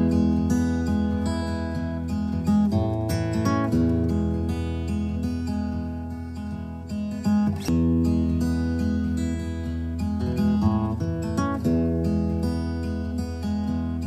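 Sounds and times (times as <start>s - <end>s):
acoustic guitar tune: 0.0s - 14.0s.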